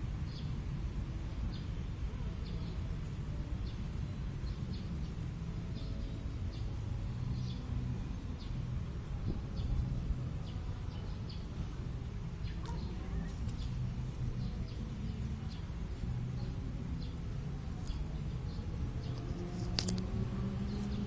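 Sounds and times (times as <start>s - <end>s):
steady low rumble: 0.0s - 21.0s
small birds chirping: 1.3s - 21.0s.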